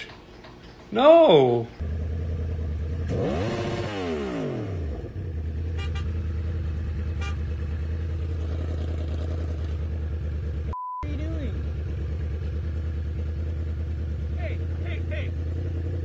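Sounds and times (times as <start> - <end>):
motorcycle engine idling and revving: 1.8 - 16.0.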